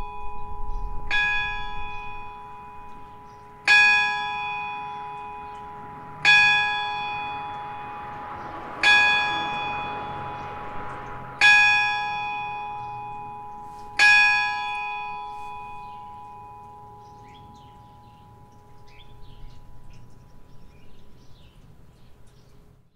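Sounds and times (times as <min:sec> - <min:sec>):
church bell ringing: 0:00.0 - 0:22.4.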